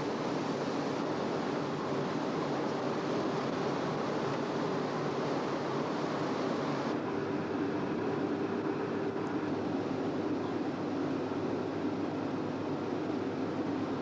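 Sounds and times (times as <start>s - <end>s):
faint steady hum: 0.0s - 14.0s
water rushing: 0.0s - 14.0s.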